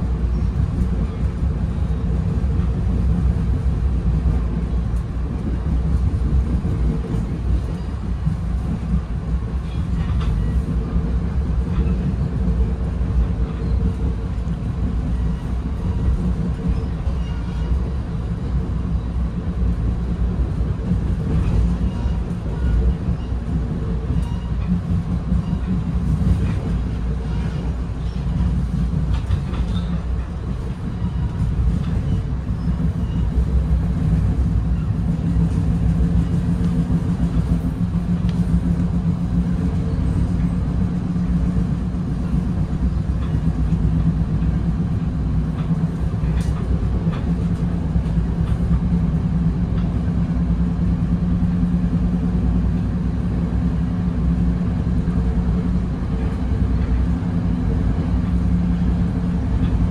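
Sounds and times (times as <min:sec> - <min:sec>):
train coach rumble: 0:00.0 - 0:59.9.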